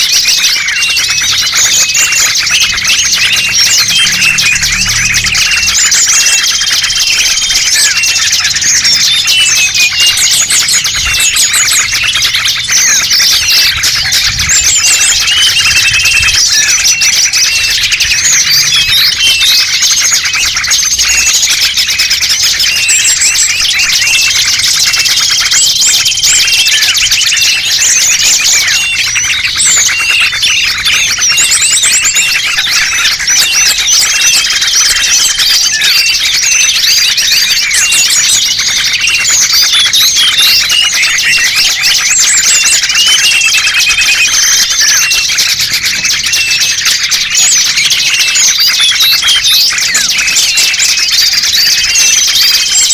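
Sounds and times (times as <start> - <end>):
songbirds chirping and twittering: 0.0 - 52.9.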